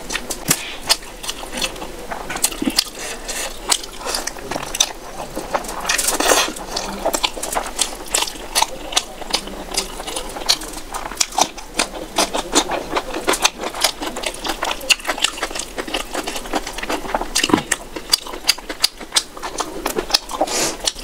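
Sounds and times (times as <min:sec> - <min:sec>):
chewing and lip-smacking: 0:00.0 - 0:21.0.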